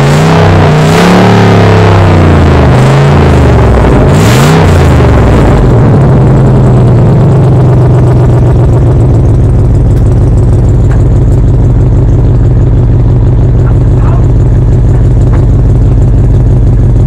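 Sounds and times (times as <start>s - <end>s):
loud car engine revving and idling: 0.0s - 17.0s.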